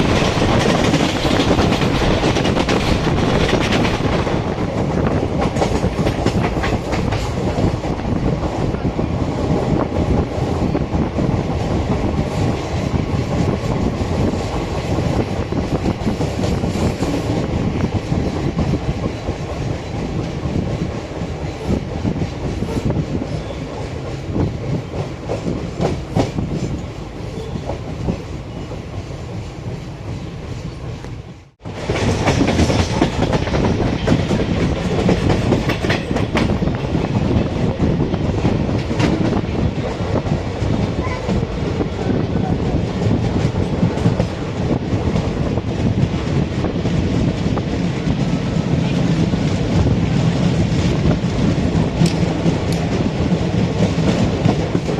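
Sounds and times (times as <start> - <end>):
train rolling rumble: 0.0 - 54.9.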